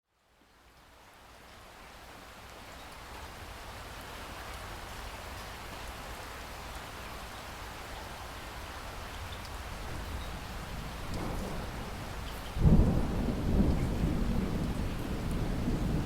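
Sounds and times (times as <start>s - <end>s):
steady rain falling: 0.1s - 16.0s.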